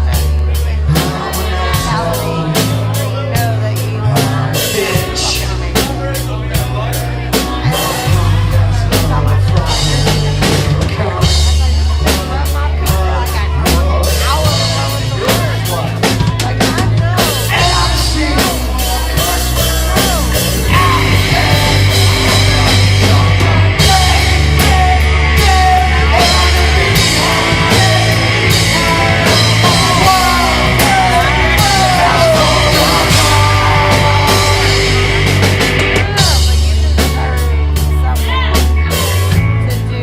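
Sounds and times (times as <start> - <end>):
person singing: 0.0 - 39.4
rock music: 0.0 - 40.0.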